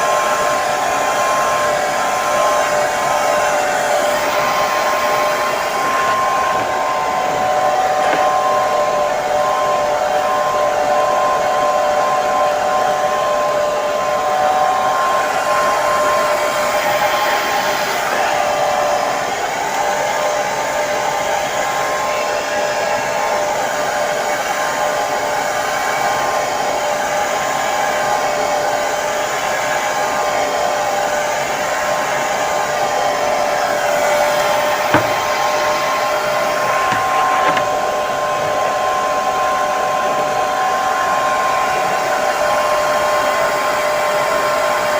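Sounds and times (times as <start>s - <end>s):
hair dryer running: 0.0s - 44.9s.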